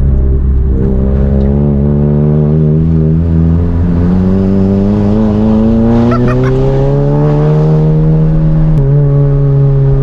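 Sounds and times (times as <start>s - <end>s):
turbocharged car engine accelerating: 0.0s - 10.0s.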